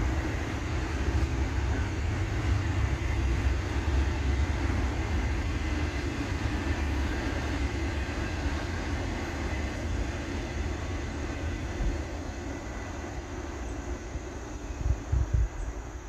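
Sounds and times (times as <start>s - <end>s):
freight train rumbling past: 0.0s - 16.0s
rail noise: 0.0s - 16.0s.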